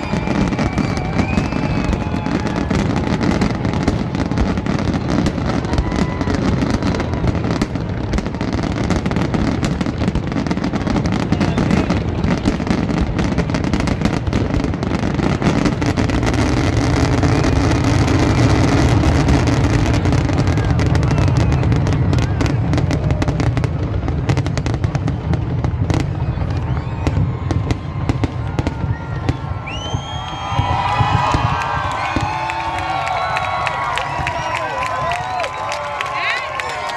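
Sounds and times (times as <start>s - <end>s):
crowd cheering and whooping: 0.0s - 36.9s
fireworks bursting: 0.0s - 36.9s.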